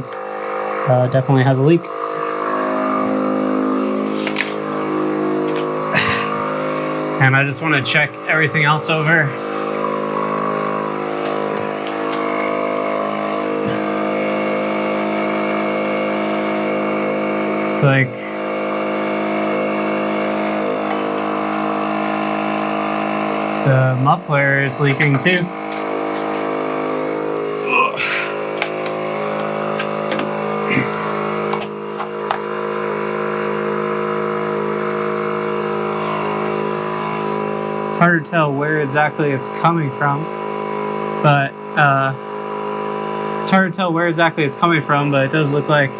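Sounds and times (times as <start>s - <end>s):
motor humming: 0.0s - 45.9s.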